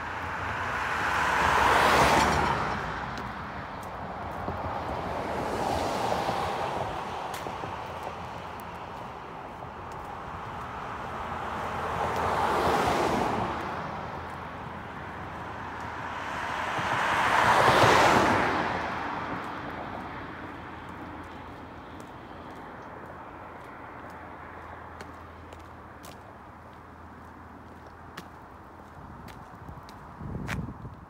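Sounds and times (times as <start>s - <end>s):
cars passing: 0.0s - 31.0s.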